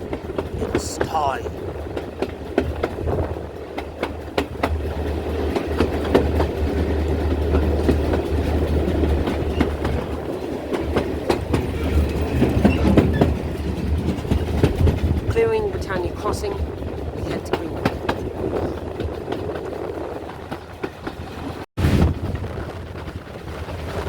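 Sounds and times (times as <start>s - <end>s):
train rumbling past: 0.0s - 24.0s
wheels clicking over rail joints: 1.6s - 21.6s.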